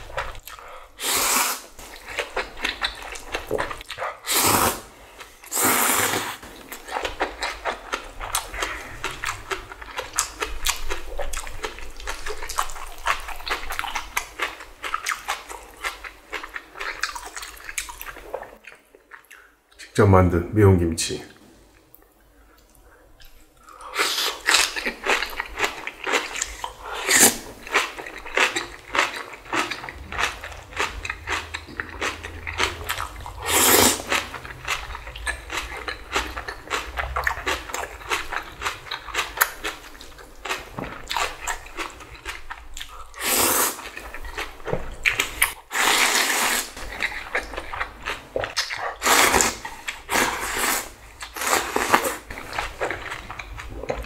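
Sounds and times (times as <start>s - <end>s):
wet chewing and crunching: 1.7s - 4.3s, 6.4s - 19.6s, 22.6s - 54.0s.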